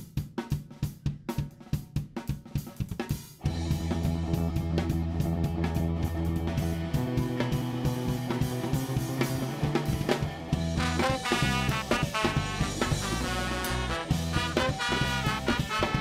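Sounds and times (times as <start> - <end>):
drum kit: 0.0 - 16.0
ska band playing: 2.4 - 16.0.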